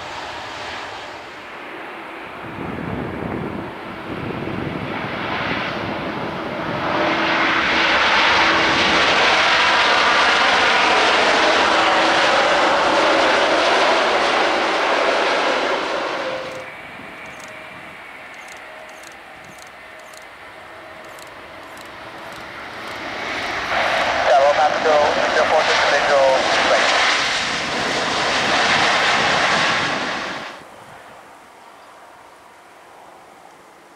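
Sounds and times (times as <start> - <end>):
jet engine reverse thrust: 0.0 - 30.6.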